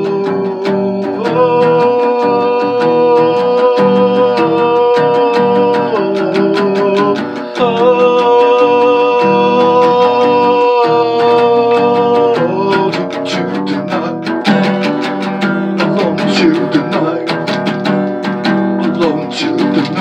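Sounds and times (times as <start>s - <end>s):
guitar strumming: 0.0s - 20.0s.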